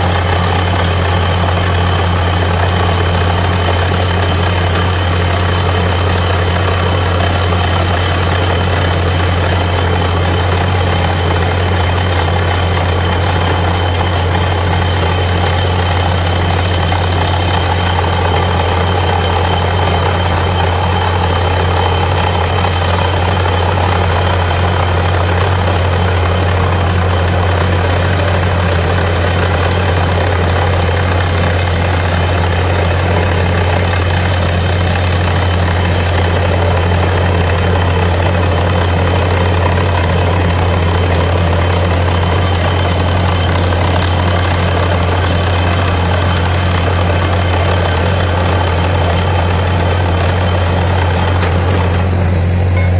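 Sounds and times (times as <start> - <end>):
drilling rig engine droning: 0.0 - 52.9.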